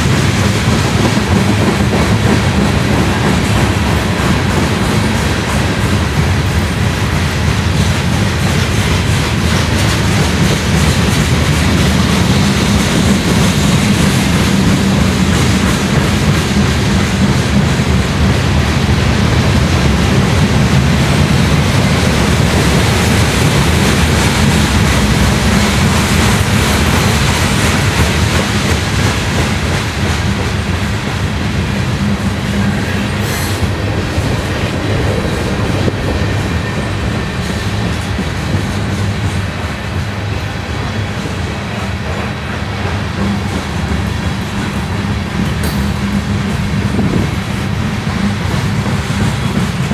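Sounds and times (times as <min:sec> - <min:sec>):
train wheels rolling on rails: 0:00.0 - 0:49.9.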